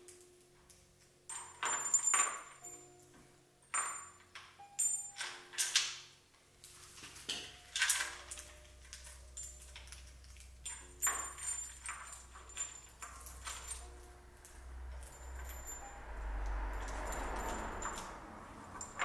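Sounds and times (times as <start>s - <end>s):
metal chain and sprockets clinking: 0.0s - 6.0s, 6.6s - 19.0s.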